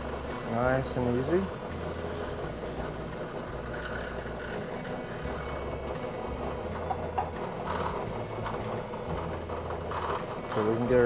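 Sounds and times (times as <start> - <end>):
drill press boring plywood: 0.0 - 11.0
low motor hum: 0.0 - 11.0.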